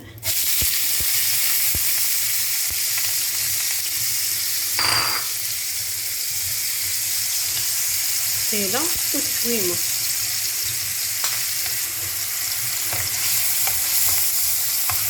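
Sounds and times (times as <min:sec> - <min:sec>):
onion and garlic sizzling in oil: 0:00.0 - 0:15.0.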